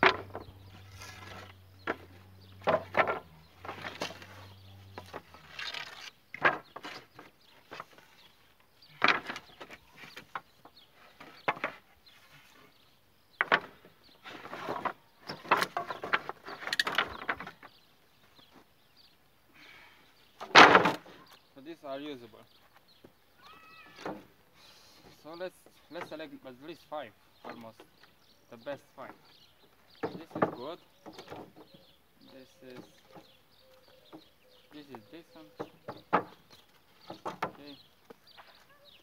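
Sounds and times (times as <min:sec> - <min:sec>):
wooden planks knocking and scraping: 0:00.0 - 0:12.8, 0:13.4 - 0:18.7, 0:20.4 - 0:21.4, 0:22.6 - 0:24.4, 0:25.0 - 0:26.6, 0:27.4 - 0:38.8.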